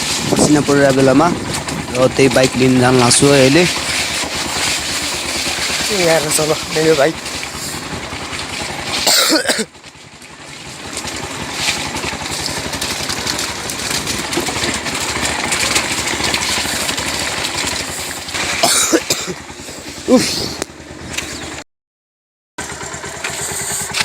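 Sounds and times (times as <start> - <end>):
motorcycle engine running: 0.0 - 21.6, 22.6 - 24.0.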